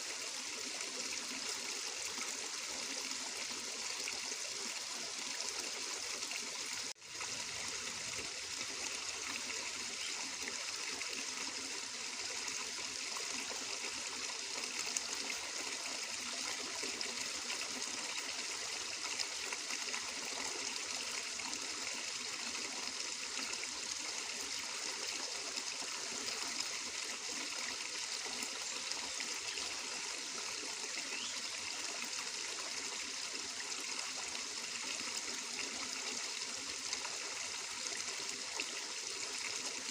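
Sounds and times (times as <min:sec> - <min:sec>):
stream running and trickling: 0:00.0 - 0:39.9.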